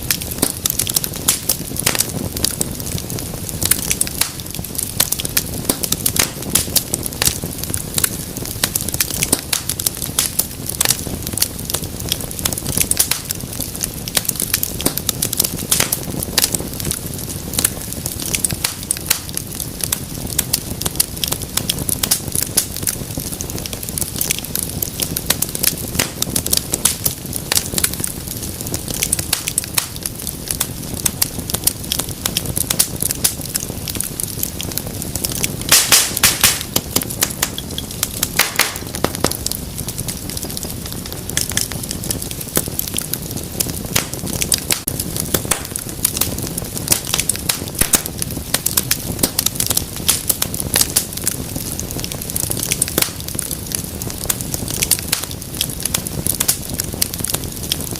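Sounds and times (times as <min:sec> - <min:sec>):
low rumble of burning: 0:00.0 - 0:57.9
wood fire crackling: 0:00.0 - 0:57.9.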